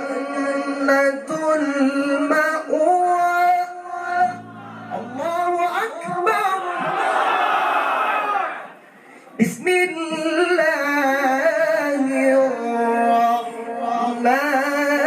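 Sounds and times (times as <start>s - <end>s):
man reciting melodically: 0.0s - 7.0s, 9.3s - 15.0s.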